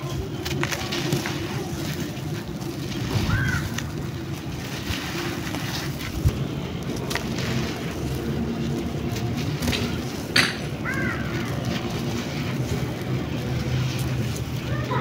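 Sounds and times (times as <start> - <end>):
sand trickling: 0.0 - 15.0.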